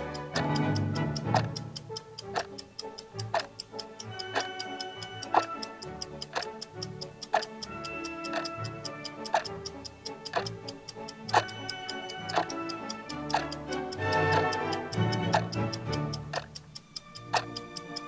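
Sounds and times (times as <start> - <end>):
background music sustained notes: 0.0 - 18.0
clock ticking: 0.0 - 18.0.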